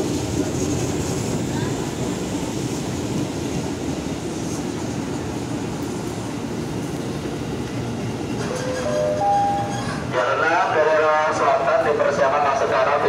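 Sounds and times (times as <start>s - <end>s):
electric train rumble and hum: 0.0s - 13.0s.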